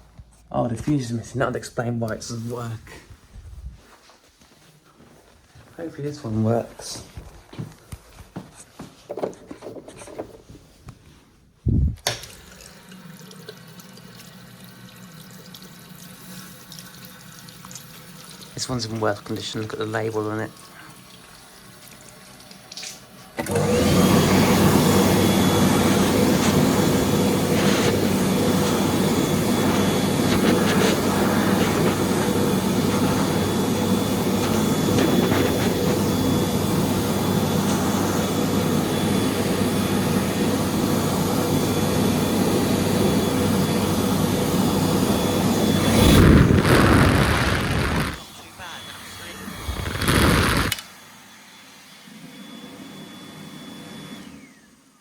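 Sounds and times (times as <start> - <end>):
hand dryer fan whirring: 10.0 - 55.0.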